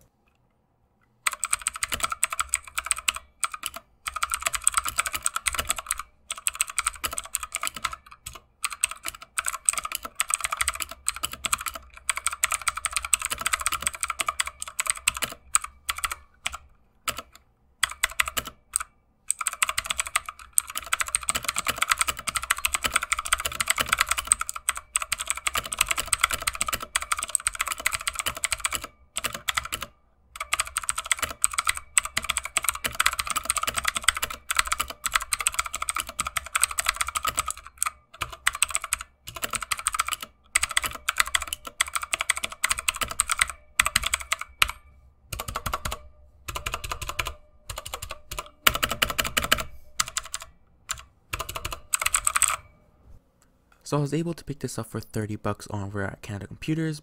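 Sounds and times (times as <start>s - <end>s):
mechanical keyboard clicks: 1.2s - 52.7s.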